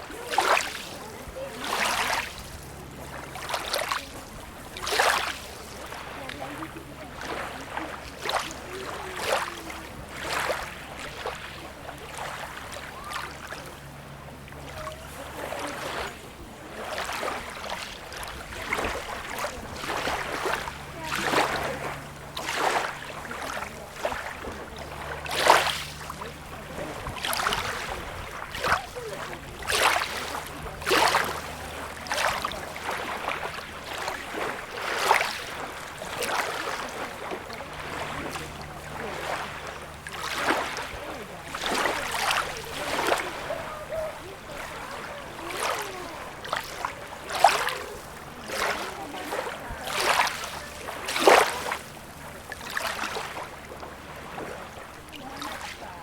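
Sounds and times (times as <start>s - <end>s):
small waves splashing on beach: 0.0s - 56.0s.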